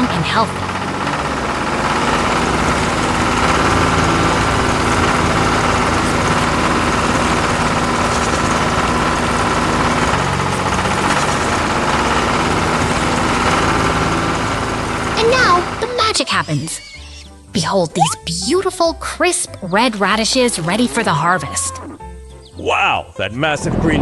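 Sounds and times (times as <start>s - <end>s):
tractor engine running: 0.0s - 22.4s.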